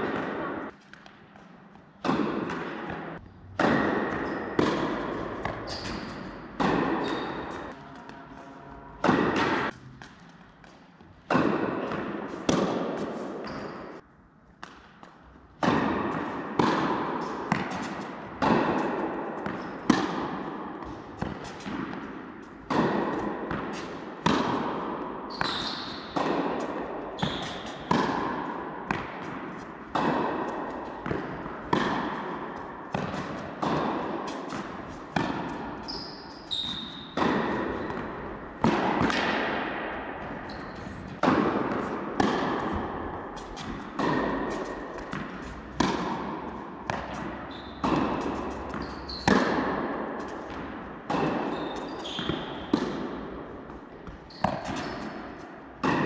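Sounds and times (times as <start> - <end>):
tennis balls bouncing on court: 0.0 - 8.3, 9.0 - 56.0
tennis balls struck by rackets: 0.0 - 8.3, 8.9 - 56.0.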